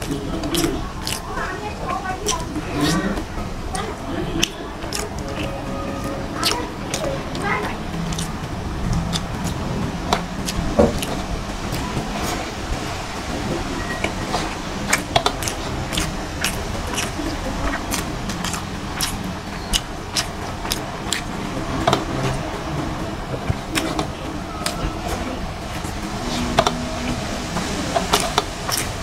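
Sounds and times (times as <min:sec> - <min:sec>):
chewing and lip-smacking: 0:00.0 - 0:29.0
low background noise: 0:00.0 - 0:29.0.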